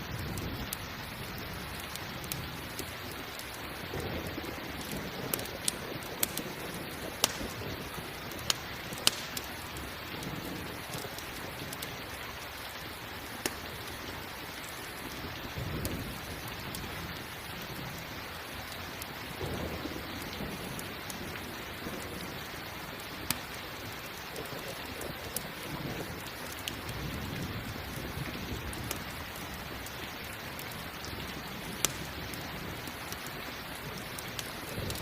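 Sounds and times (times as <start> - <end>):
thunder rumbling: 0.0 - 12.2, 13.7 - 18.2, 19.2 - 35.0
campfire crackling pops: 0.0 - 35.0
steady rain: 0.0 - 35.0.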